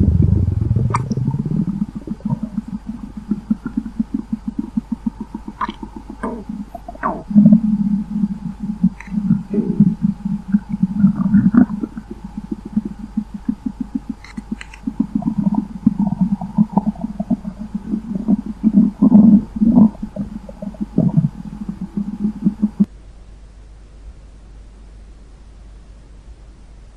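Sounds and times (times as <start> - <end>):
stomach rumbling and gurgling: 0.0 - 22.9.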